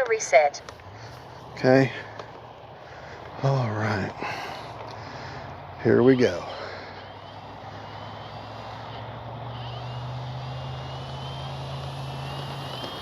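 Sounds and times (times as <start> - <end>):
propeller hum: 0.0 - 13.0
high motor whine rising in pitch: 0.6 - 13.0.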